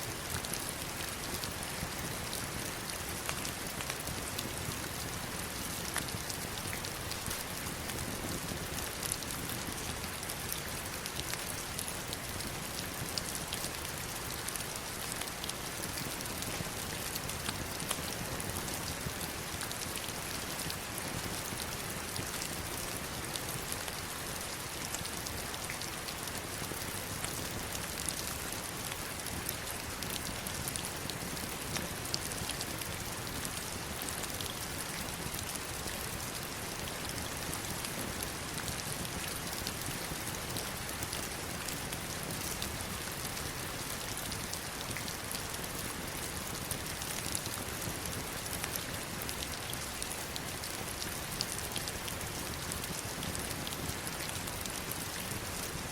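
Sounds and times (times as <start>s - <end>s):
heavy rain falling on stones: 0.1s - 55.9s.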